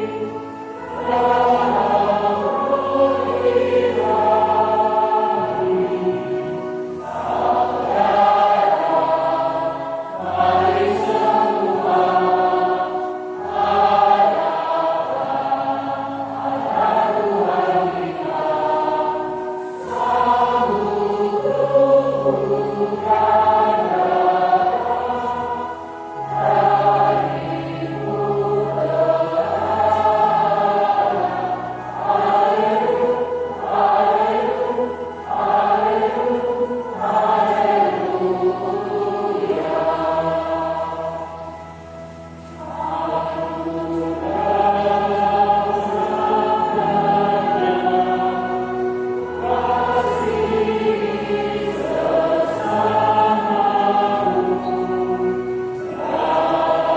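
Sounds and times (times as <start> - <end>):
choir singing a hymn: 0.0 - 56.9.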